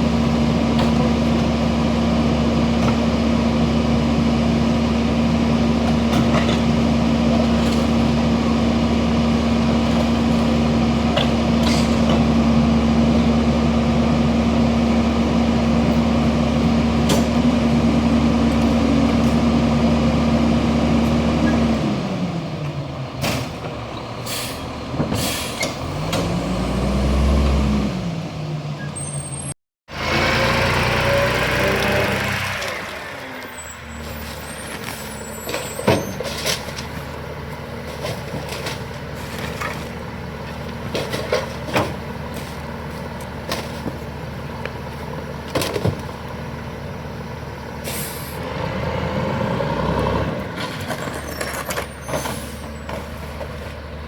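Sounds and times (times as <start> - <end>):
garbage truck engine revving: 0.0 - 28.8, 29.9 - 54.0.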